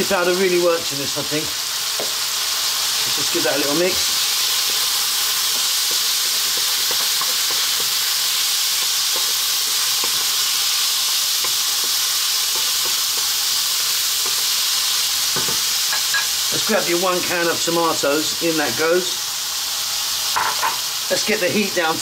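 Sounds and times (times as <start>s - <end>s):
food frying in oil: 0.0s - 22.0s.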